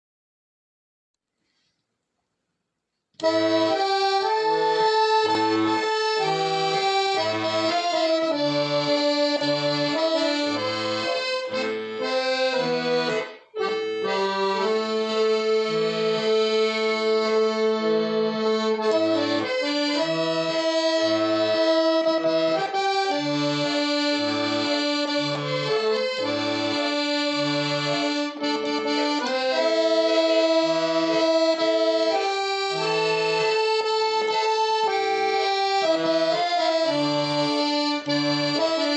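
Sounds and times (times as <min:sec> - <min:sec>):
accordion playing slow melody: 0:03.2 - 0:38.9.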